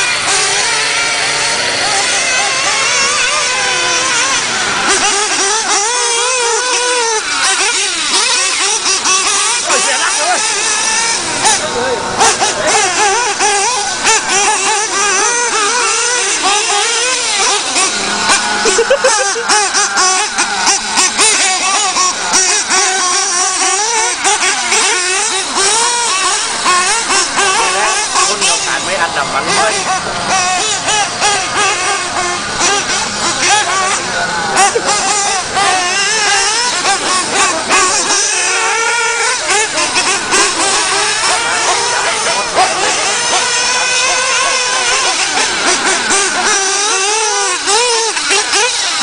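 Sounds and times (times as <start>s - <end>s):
model car engines whining: 0.0s - 49.0s.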